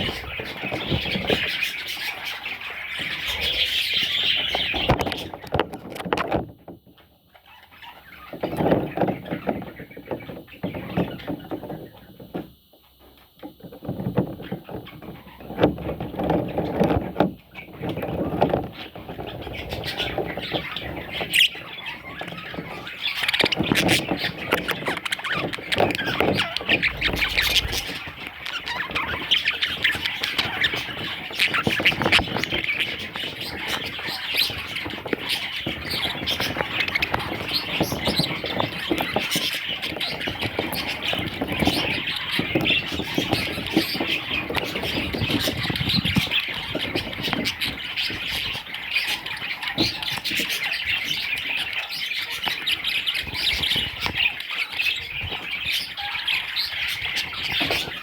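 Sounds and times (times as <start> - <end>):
budgerigars chattering and squawking: 0.0 - 6.4, 7.3 - 12.4, 13.9 - 58.0.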